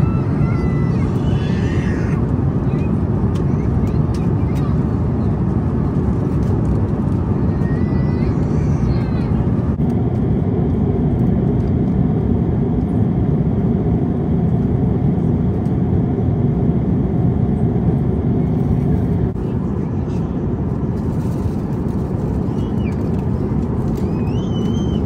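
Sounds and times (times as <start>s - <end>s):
airliner cabin engine roar: 0.0s - 25.0s.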